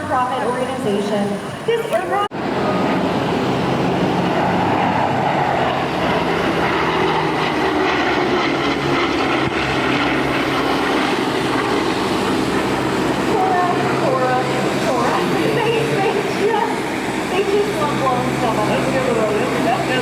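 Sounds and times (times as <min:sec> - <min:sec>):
propeller aircraft droning past: 0:00.0 - 0:20.0.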